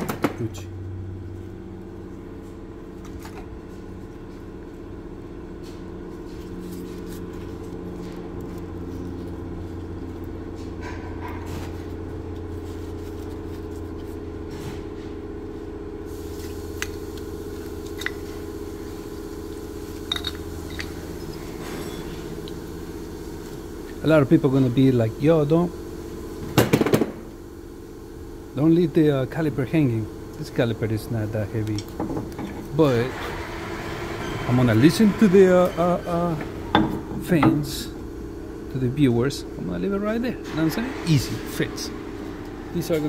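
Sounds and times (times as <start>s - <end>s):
low machine hum: 0.0s - 43.0s.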